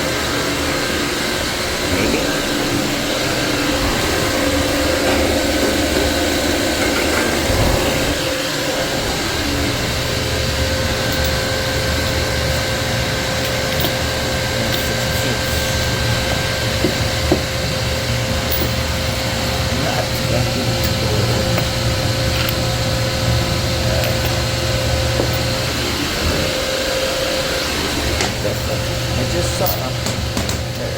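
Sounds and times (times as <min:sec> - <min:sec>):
refrigerant recovery machine running: 0:00.0 - 0:30.9.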